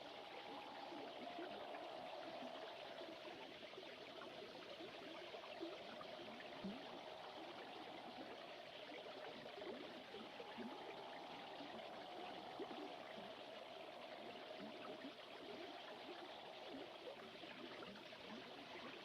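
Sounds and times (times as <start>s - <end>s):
faint steady tone: 0.0s - 19.0s.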